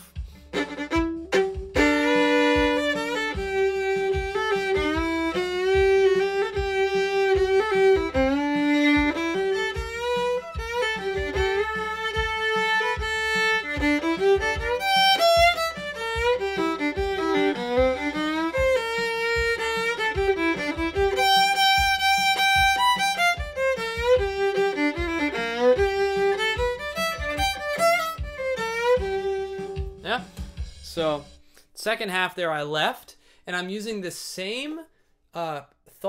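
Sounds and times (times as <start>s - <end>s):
solo fiddle playing: 0.1s - 30.2s.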